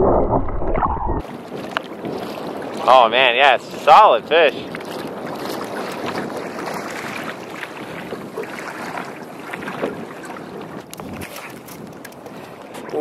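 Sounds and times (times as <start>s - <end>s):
water lapping against a hull: 0.0s - 13.0s
wind on microphone: 0.0s - 13.0s.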